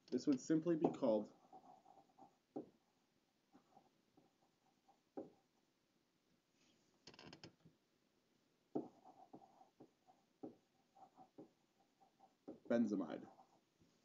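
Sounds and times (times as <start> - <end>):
stylus tapping and scratching tablet: 0.0 - 14.0.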